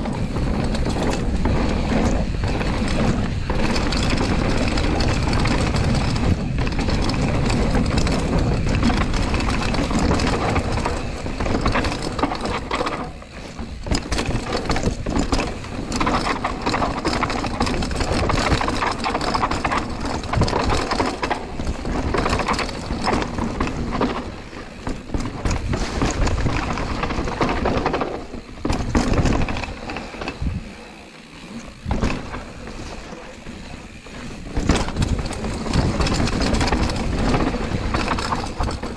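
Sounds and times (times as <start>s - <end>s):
bike tyres rolling and rattling: 0.0s - 38.9s.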